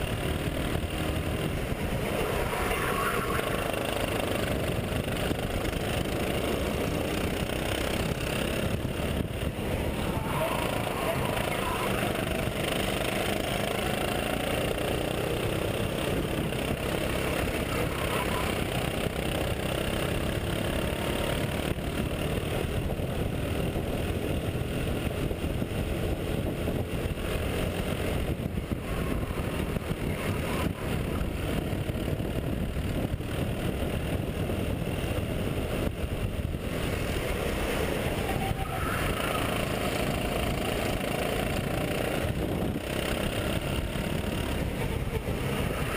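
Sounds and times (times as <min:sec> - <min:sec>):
go-kart engine racing: 0:00.0 - 0:45.9
wind rushing over microphone: 0:00.0 - 0:45.9.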